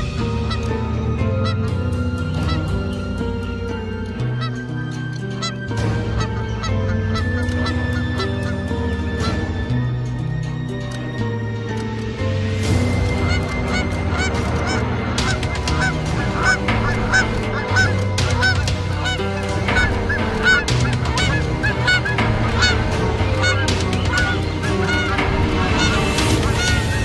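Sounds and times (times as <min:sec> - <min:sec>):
geese honking: 0:00.0 - 0:10.2, 0:12.8 - 0:27.0.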